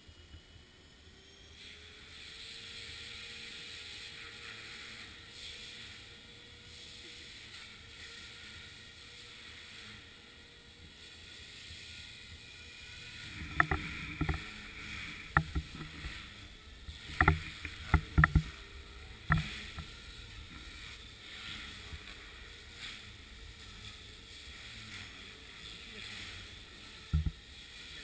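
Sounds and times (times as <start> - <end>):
helicopter rotor whirring: 0.0 - 28.0.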